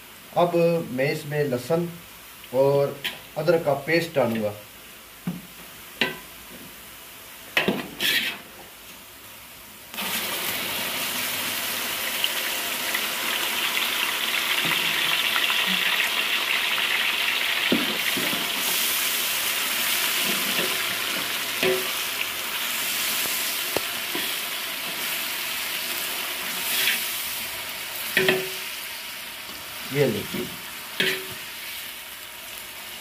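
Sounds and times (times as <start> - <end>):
paste sizzling in hot oil: 2.2 - 8.8, 9.9 - 33.0.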